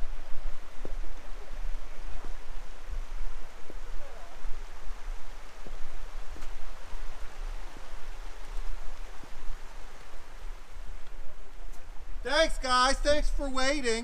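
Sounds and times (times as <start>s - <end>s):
wind rumbling on microphone: 0.0s - 13.6s.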